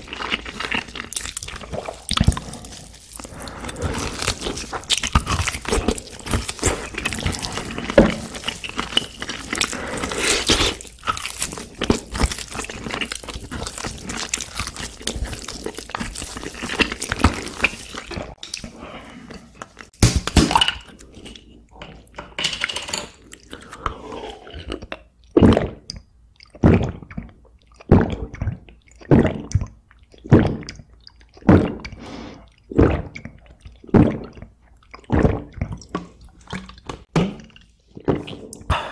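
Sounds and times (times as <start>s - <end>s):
person gulping water: 0.0s - 18.8s, 23.4s - 38.9s
wet mouth sounds: 0.0s - 19.9s, 23.3s - 38.9s.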